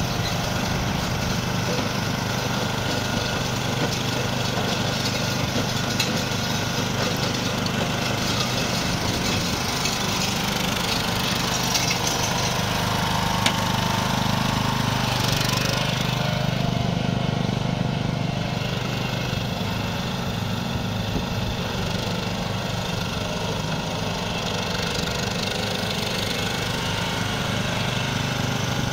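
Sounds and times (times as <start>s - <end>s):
ride-on lawnmower engine running: 0.0s - 28.9s.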